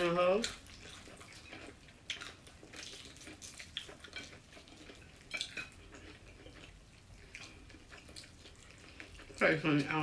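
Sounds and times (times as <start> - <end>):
chewing fried chicken: 0.0 - 10.0.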